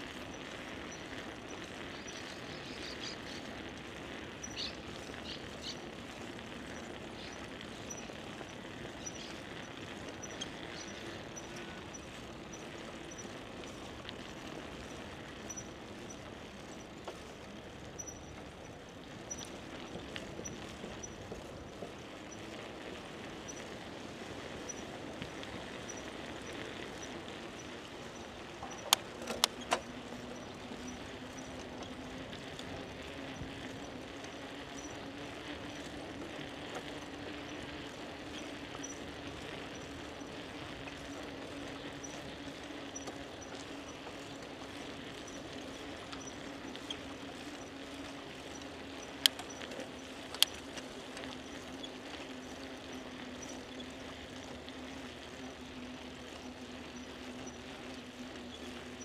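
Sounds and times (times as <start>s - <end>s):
bicycle tyres hissing: 0.0s - 59.0s.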